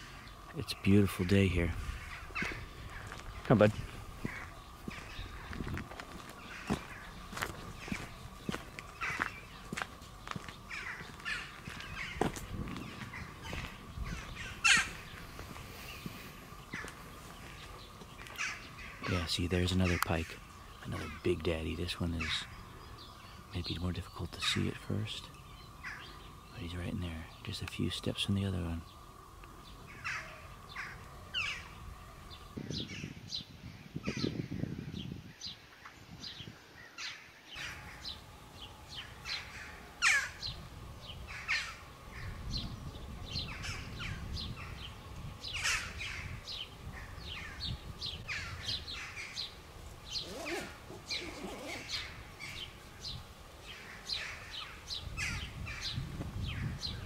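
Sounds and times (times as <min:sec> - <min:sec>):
low rumbling noise: 0:00.0 - 0:35.0, 0:37.6 - 0:54.1
songbirds chirping and singing: 0:00.0 - 0:57.0.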